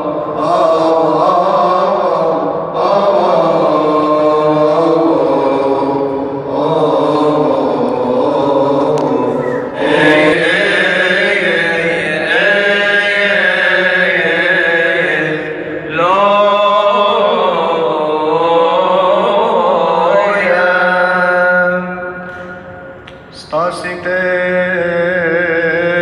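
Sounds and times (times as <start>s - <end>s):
voices chanting held notes: 0.0s - 23.6s.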